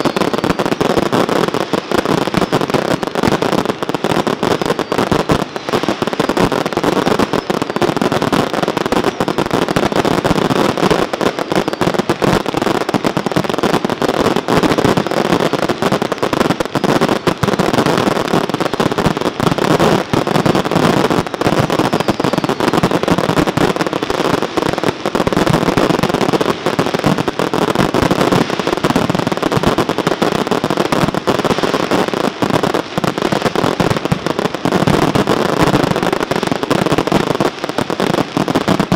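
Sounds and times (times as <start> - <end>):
fireworks barrage: 0.0 - 38.9.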